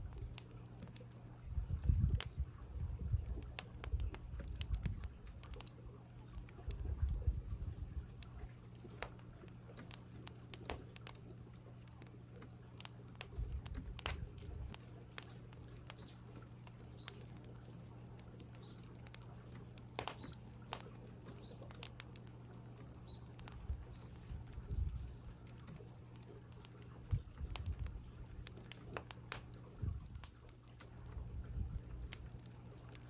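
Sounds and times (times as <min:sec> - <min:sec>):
steady low hum: 0:00.0 - 0:33.0
sharp clicks and pops: 0:01.7 - 0:33.0.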